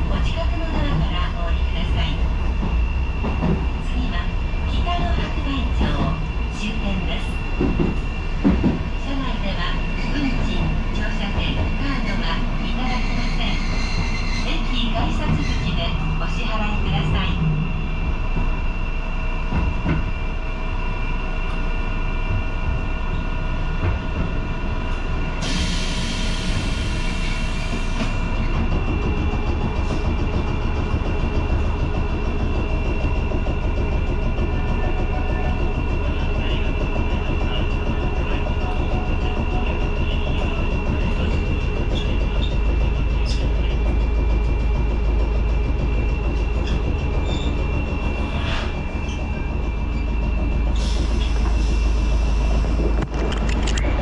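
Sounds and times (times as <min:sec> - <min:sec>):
rail clicks: 0:00.0 - 0:17.4, 0:23.1 - 0:54.0
tram rumble: 0:00.0 - 0:54.0.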